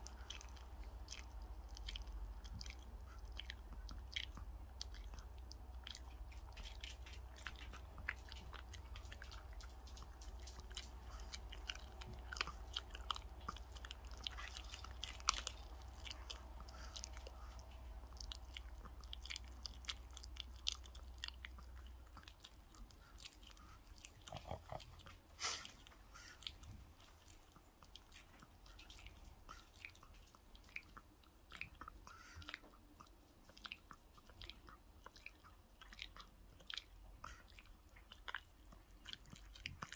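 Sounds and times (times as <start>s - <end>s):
dog chewing raw meat: 0.0s - 39.9s.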